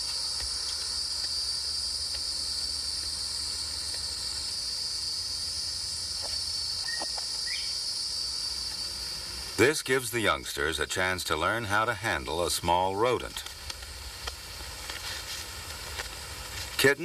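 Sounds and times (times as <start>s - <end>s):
crickets and insects chirping: 0.0s - 17.0s.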